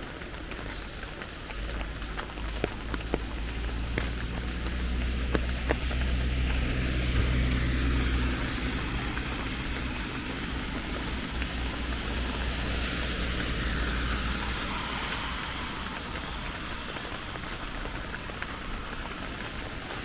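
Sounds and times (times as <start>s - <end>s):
sharp drip ticks: 0.0s - 20.0s
steady rain hiss: 0.0s - 20.0s
vehicle engine running: 0.0s - 20.0s.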